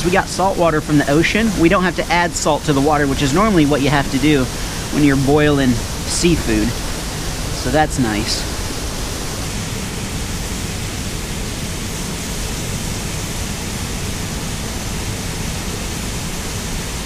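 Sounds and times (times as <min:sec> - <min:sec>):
gas camp stove burning: 0:00.0 - 0:17.0
ocean surf: 0:00.0 - 0:17.0
water boiling in a pot: 0:00.0 - 0:17.0.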